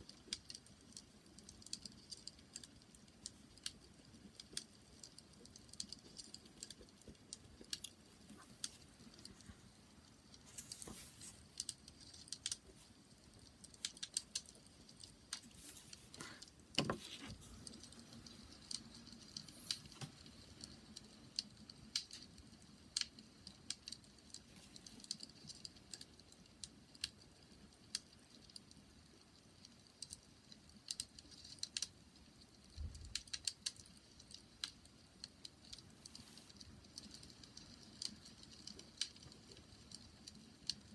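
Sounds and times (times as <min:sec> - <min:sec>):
faint low hiss: 0:00.0 - 0:40.9
wood fire crackling: 0:00.0 - 0:40.9.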